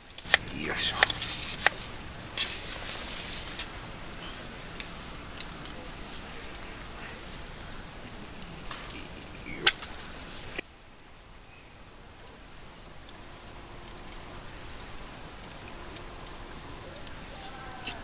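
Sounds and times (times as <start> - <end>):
campfire crackling: 0.0 - 18.0
steady hiss: 0.0 - 18.0.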